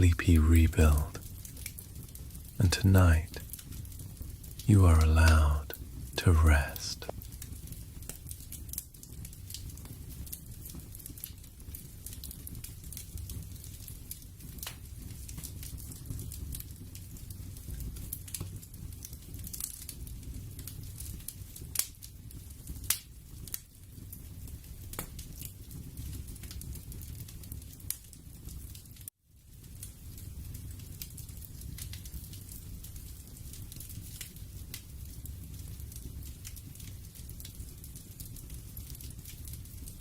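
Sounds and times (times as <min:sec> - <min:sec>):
soft crackles and pops: 0:00.0 - 0:40.0.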